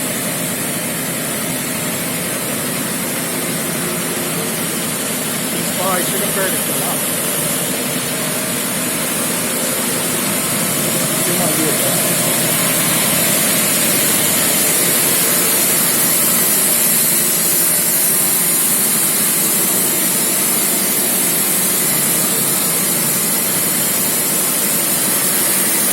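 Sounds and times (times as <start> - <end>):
air compressor running: 0.0 - 25.9
loud hiss of air: 0.0 - 25.9.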